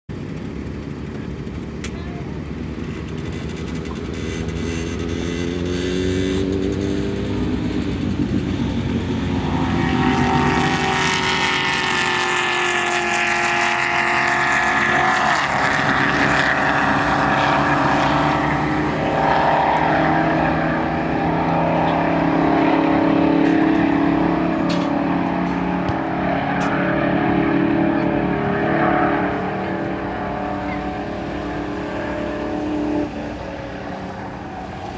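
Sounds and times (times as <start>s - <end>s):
car engine accelerating past: 3.1s - 34.9s.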